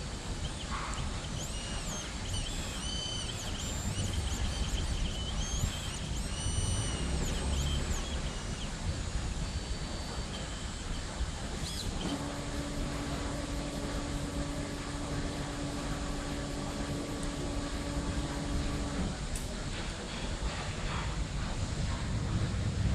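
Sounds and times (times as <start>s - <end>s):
machine motors whining: 0.0s - 20.0s
machine humming: 0.0s - 20.5s
mechanical rumble: 0.0s - 22.9s.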